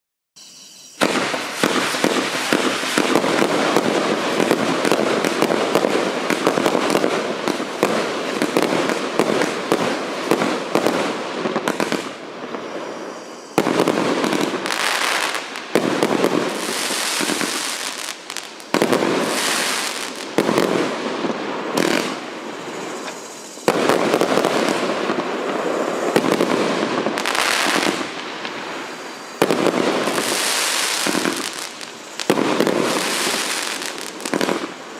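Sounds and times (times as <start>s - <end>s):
firework volleys and crackle: 0.4s - 34.9s.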